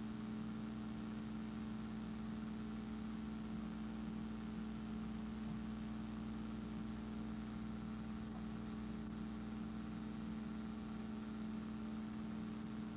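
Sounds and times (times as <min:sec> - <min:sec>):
machine hum with hiss: 0:00.0 - 0:12.9.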